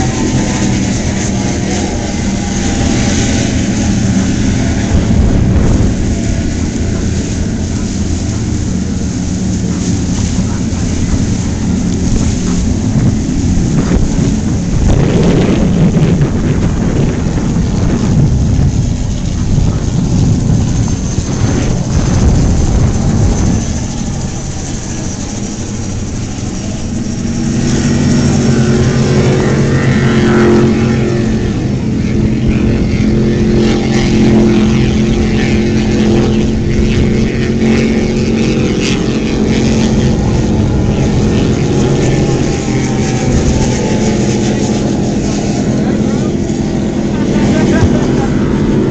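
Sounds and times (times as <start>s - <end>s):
motorboat engines running: 0.0s - 48.9s
water rumbling: 0.0s - 48.9s
wind: 0.0s - 48.9s.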